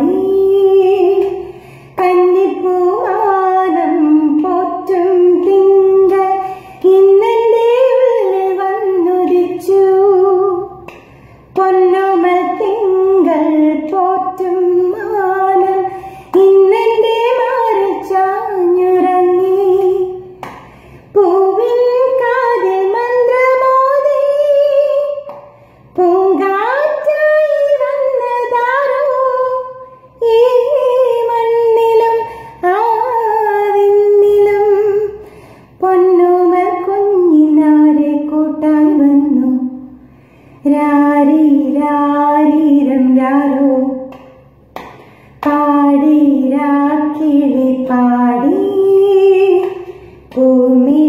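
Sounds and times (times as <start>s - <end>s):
woman singing unaccompanied: 0.0s - 35.2s, 35.8s - 39.9s, 40.6s - 51.0s.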